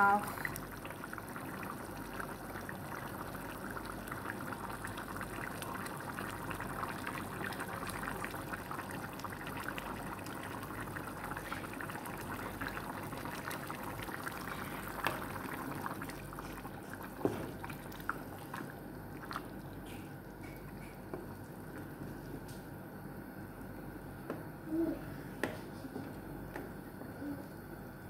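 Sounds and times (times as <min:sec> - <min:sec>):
sauce bubbling in a pot: 0:00.0 - 0:27.7.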